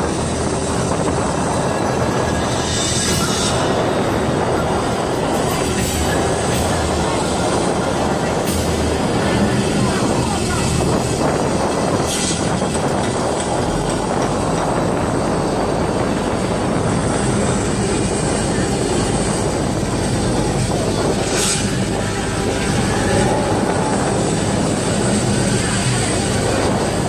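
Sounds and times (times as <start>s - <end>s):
boat engine droning: 0.0s - 27.0s
wind and water rushing: 0.0s - 27.0s.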